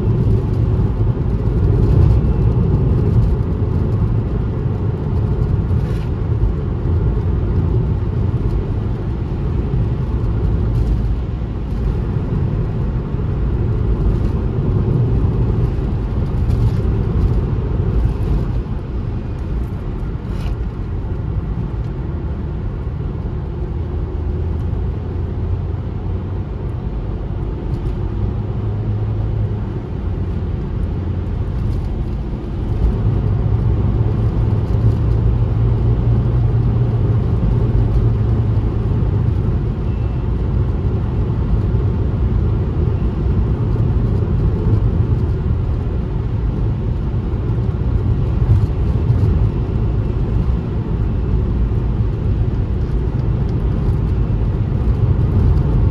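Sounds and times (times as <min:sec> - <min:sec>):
car engine and tyre road noise: 0:00.0 - 0:55.9.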